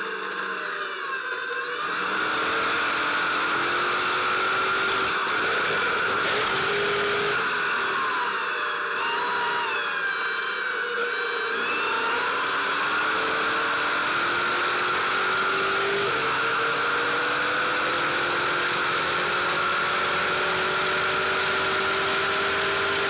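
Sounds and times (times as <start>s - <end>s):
engine pulling with rising pitch: 0.0s - 10.6s, 11.5s - 23.0s.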